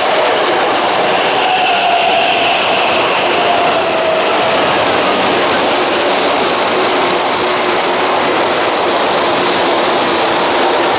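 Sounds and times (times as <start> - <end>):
train wheels rushing on rails: 0.0 - 10.9.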